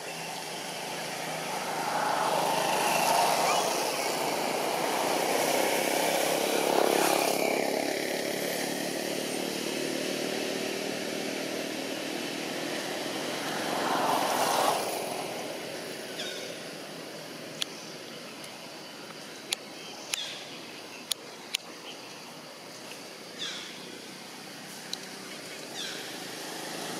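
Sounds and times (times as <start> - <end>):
vehicle engines passing by: 0.0 - 26.9.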